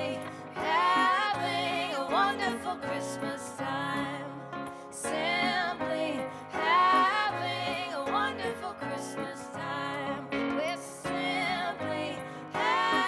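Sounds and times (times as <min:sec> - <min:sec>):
voices singing: 0:00.0 - 0:13.0.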